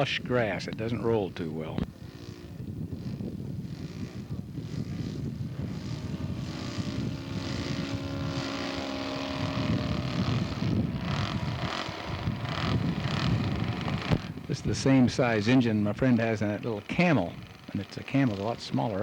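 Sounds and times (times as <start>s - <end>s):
model airplane engine and propeller: 0.0s - 19.0s.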